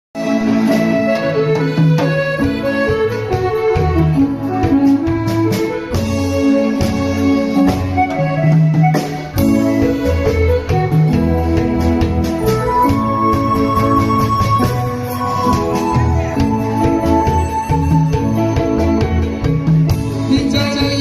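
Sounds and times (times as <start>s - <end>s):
instrumental song accompaniment: 0.2s - 21.0s.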